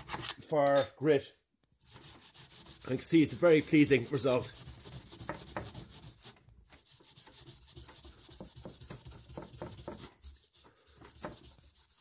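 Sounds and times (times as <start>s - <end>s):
steel wool scrubbing wood: 1.8s - 12.0s.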